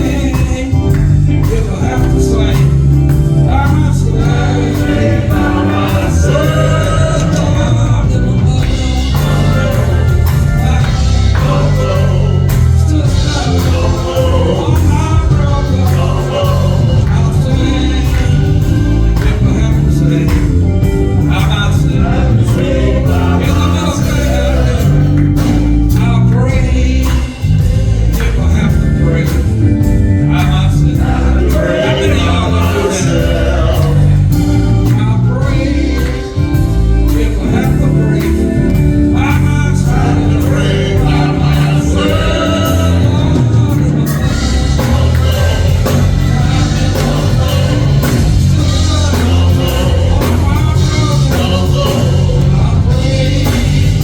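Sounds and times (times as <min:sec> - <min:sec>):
band with heavy bass and drums: 0:00.0 - 0:54.0
gospel singing: 0:00.0 - 0:54.0.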